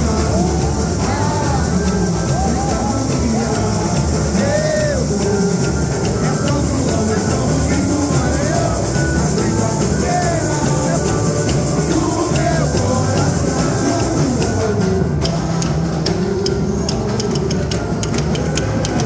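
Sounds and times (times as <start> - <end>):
samba band with percussion: 0.0 - 19.0
sharp high percussion strikes: 0.0 - 19.0.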